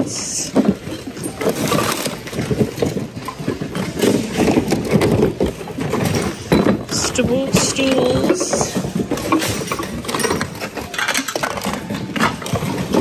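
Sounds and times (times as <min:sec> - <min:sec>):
hard items clattering together: 0:00.0 - 0:13.0.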